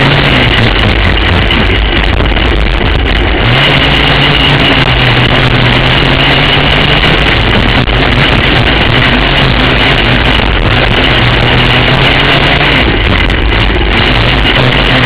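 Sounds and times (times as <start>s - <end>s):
kart engine running hard: 0.0s - 15.0s.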